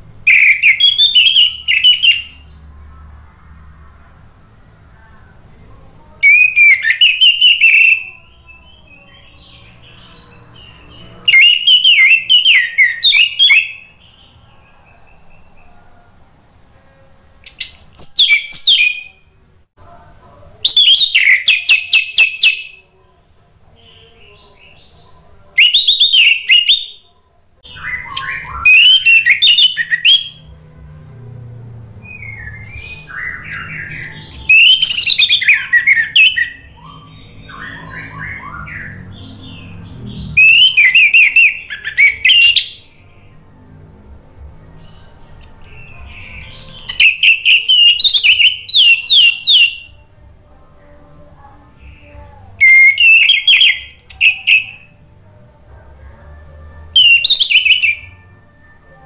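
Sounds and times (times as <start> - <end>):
thrush singing warbling phrases: 0.0 - 19.4, 20.5 - 59.0.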